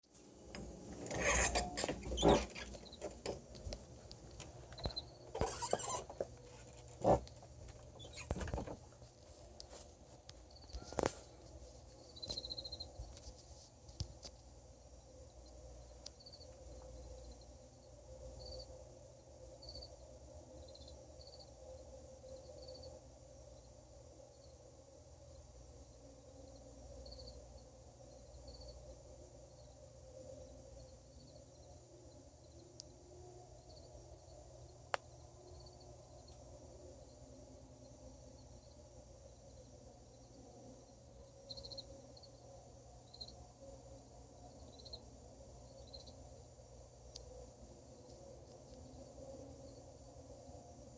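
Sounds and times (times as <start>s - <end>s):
steady low hum: 0.0s - 50.9s
crickets chirping: 0.7s - 50.9s.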